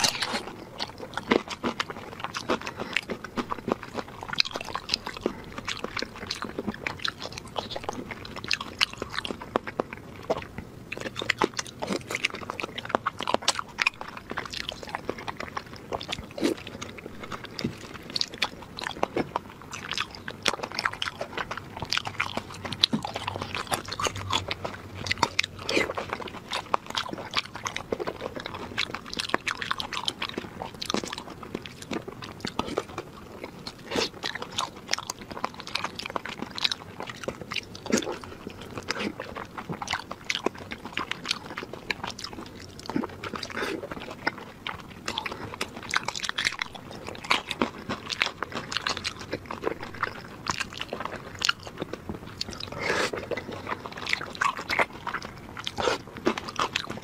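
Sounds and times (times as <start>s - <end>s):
wet chewing of meat: 0.0s - 57.0s.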